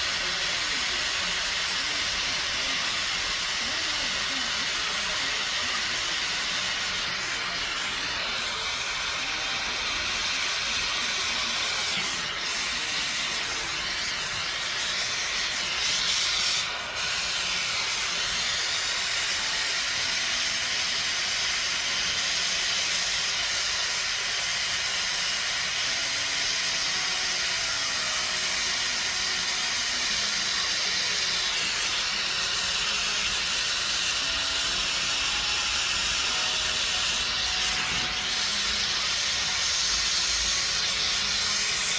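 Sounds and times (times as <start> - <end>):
torch flame hissing: 0.0 - 41.9.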